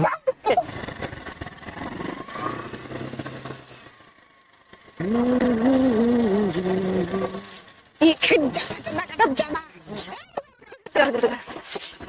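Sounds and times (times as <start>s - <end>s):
motorcycle engine approaching: 0.0s - 12.0s.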